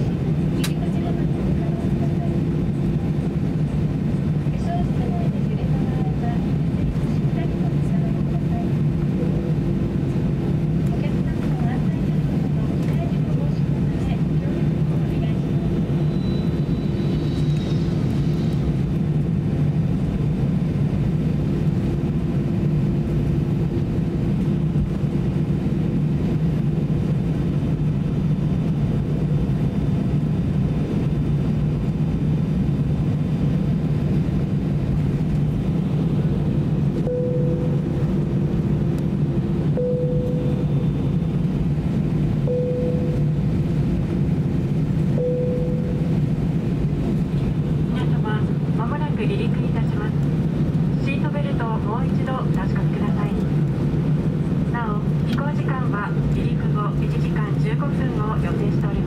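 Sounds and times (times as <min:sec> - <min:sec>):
airplane cabin drone: 0:00.0 - 0:59.0.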